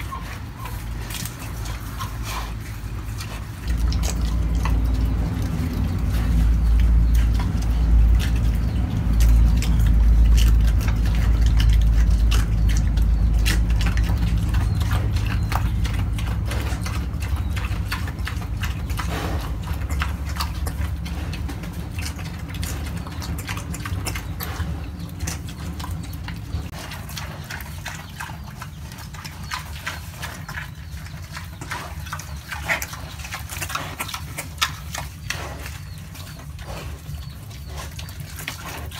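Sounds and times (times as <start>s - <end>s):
low rumble: 0.0s - 38.9s
pig chewing and crunching: 0.0s - 38.9s.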